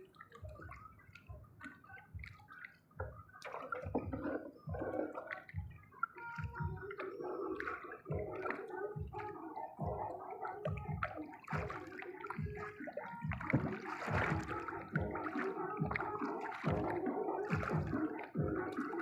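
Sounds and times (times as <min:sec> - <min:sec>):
water sloshing and gurgling: 0:00.0 - 0:19.0.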